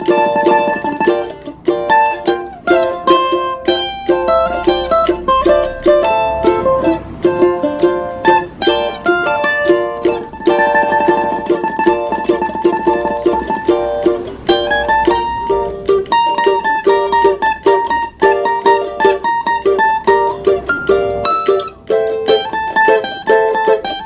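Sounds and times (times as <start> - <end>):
plucked string instrument melody: 0.0 - 24.0.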